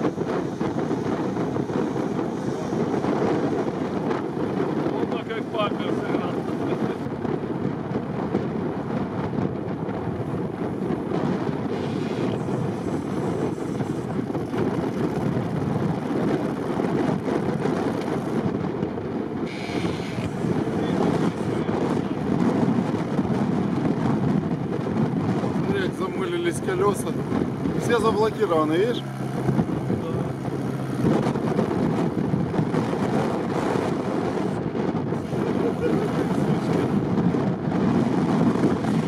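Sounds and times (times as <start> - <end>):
off-road vehicle engine under load: 0.0 - 39.0
wind noise on microphone: 0.0 - 39.0.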